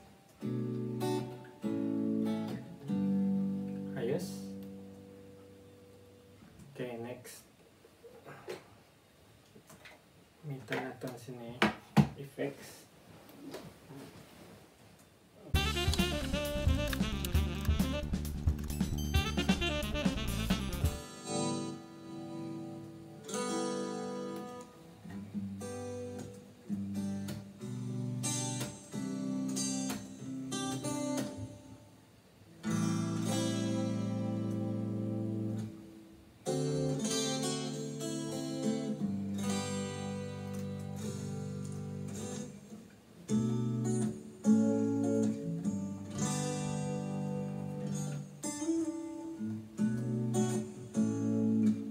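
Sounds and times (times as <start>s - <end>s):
guitar chords strummed: 0.0s - 6.4s, 15.5s - 31.8s, 32.6s - 51.9s.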